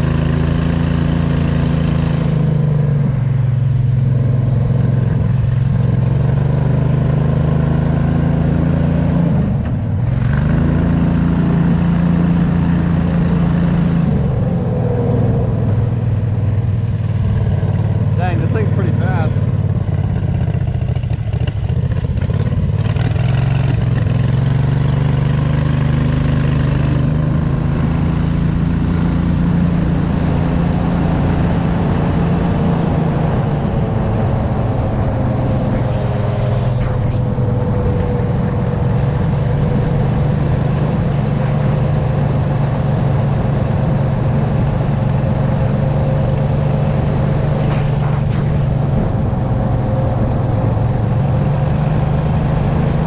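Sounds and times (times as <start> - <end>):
go-kart engine running: 0.0 - 53.0.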